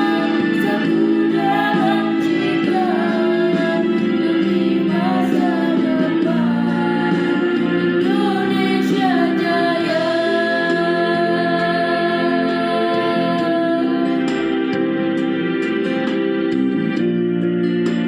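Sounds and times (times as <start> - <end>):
woman singing: 0.0 - 14.5
instrumental backing music: 0.0 - 18.0.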